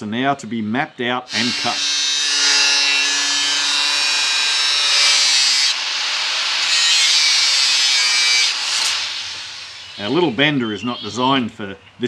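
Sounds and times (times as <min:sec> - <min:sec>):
angle grinder cutting metal: 0:01.3 - 0:11.4.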